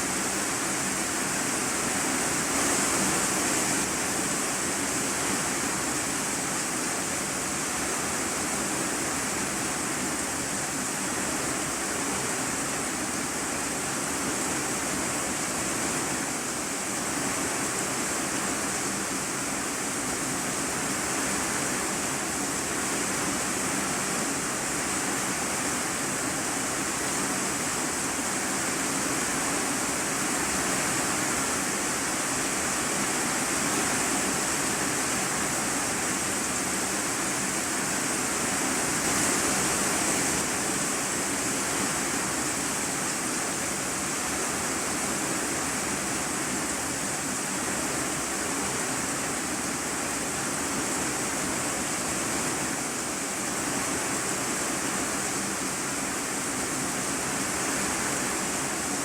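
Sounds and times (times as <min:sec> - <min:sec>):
rain on a tin roof: 0:00.0 - 0:59.0.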